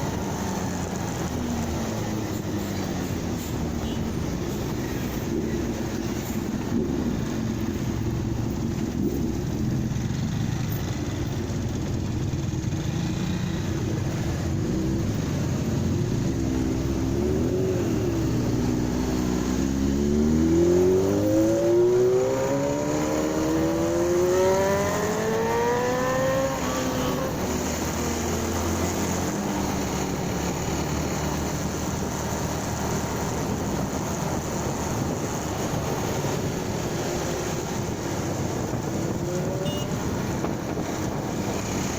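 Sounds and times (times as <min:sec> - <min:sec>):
wind and road noise: 0:00.0 - 0:41.9
motorcycle engine accelerating: 0:04.6 - 0:41.9.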